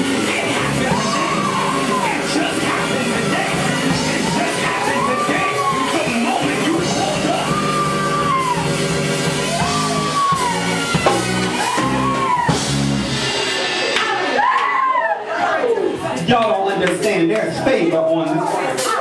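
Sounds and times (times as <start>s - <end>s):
drums and cymbals: 0.0s - 15.2s, 17.9s - 19.0s
live band praise music: 0.0s - 19.0s.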